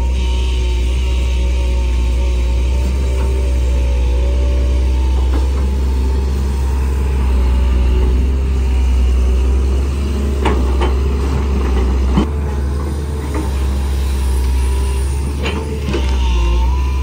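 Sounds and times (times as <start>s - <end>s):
diesel engine running under load: 0.0s - 17.0s
hydraulic pump howling: 0.0s - 17.0s.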